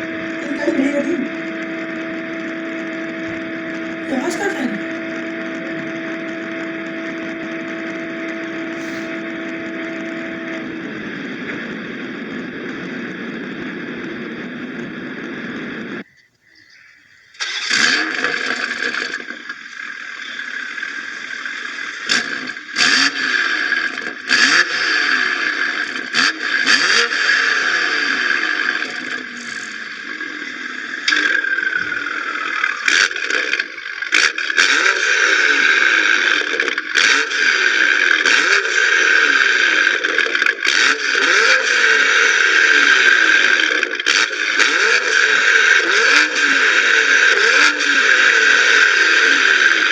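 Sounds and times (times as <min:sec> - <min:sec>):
car engine revving: 0:00.0 - 0:16.0, 0:17.4 - 0:49.9
exhaust cracks: 0:00.0 - 0:16.1, 0:17.3 - 0:49.9.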